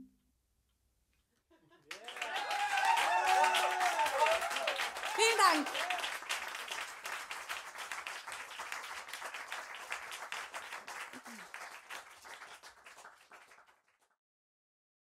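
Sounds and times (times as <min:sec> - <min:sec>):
small audience applauding: 0:01.8 - 0:14.2.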